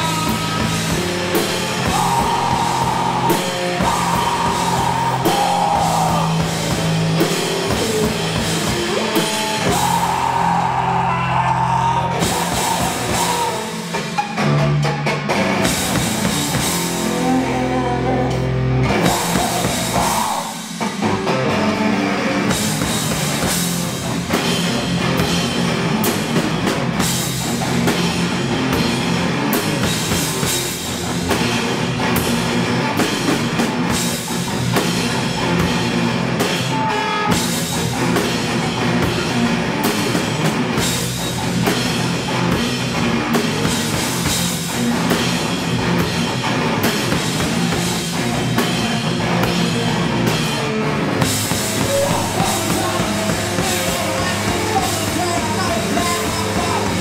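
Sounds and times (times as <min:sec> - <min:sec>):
drum kit with cymbals: 0:00.0 - 0:57.0
electric guitar: 0:00.0 - 0:57.0.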